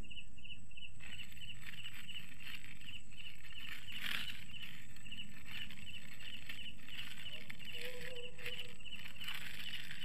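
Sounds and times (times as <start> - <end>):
crickets chirping: 0.0 - 10.0
plastic wrapper crinkling: 1.0 - 10.0.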